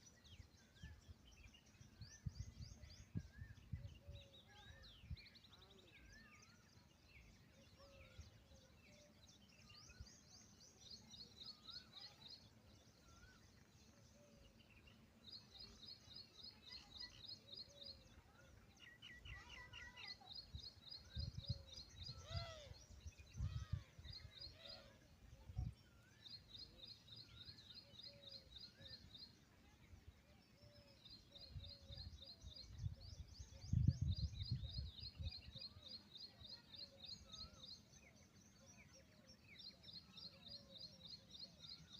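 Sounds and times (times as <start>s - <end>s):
bird chirps: 0.0s - 41.9s.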